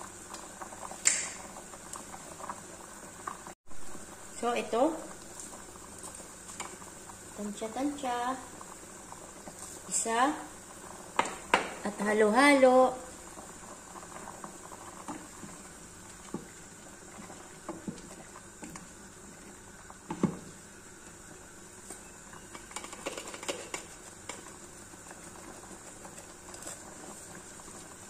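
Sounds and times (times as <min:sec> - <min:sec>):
soup bubbling: 0:00.0 - 0:28.0.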